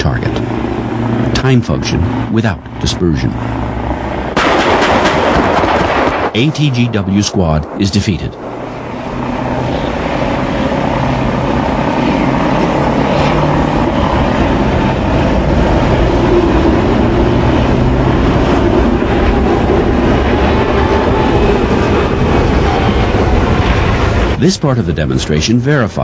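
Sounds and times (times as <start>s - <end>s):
heavy vehicle engine rumble: 0.0s - 25.2s.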